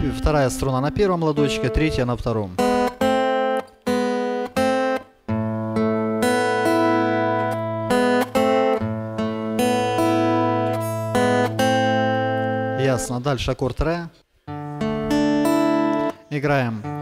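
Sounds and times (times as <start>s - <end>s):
acoustic guitar fingerpicked: 0.0s - 13.1s, 14.2s - 17.0s.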